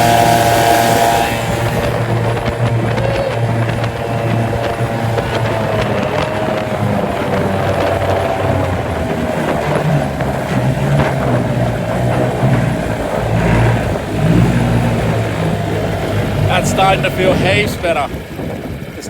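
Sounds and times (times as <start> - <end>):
outboard motor running: 0.0 - 19.0
water noise: 0.0 - 19.0
wind: 0.0 - 19.0.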